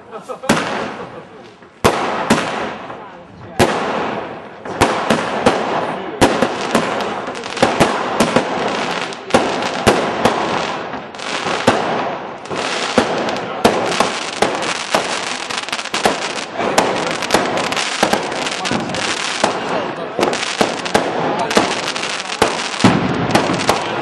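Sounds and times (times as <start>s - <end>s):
fireworks banging: 0.2s - 24.0s
background explosions: 3.6s - 24.0s.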